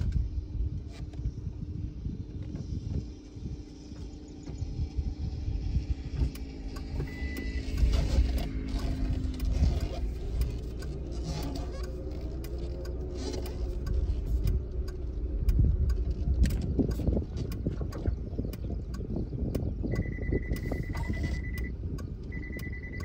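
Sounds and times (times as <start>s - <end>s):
car rumbling on rough road: 0.0s - 23.0s.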